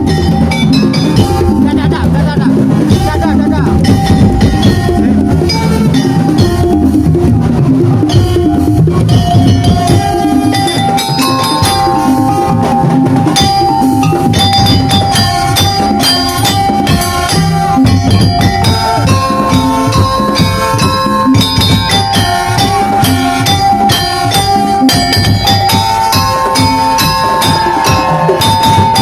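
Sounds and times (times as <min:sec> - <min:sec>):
drums playing fast pattern: 0:00.0 - 0:29.0
high held melodic line: 0:00.0 - 0:29.0.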